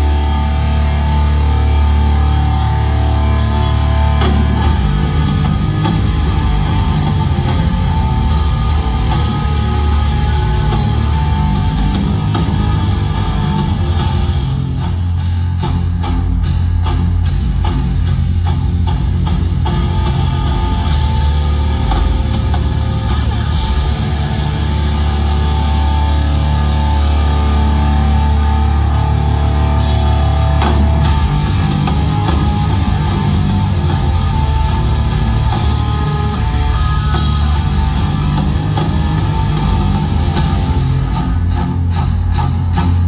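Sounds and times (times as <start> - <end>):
driving drum kit: 0.0 - 43.0
guitar: 0.0 - 43.0
heavy bass: 0.0 - 43.0.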